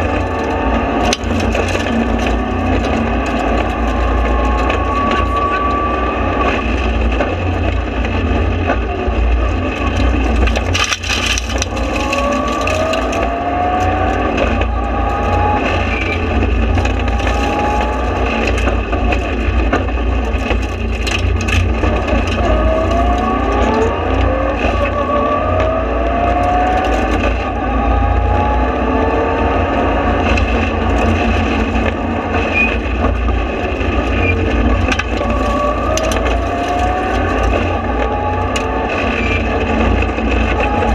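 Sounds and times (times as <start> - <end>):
rally car engine revving: 0.0 - 40.9
road and tyre rumble: 0.0 - 40.9.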